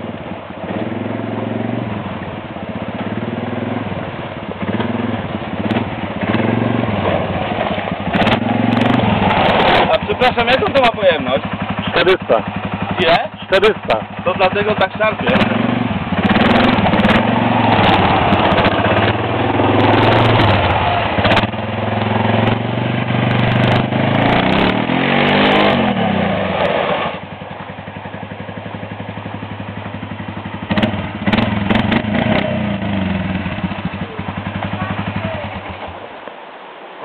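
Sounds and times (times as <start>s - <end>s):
quad bike engine revving: 0.0s - 36.0s.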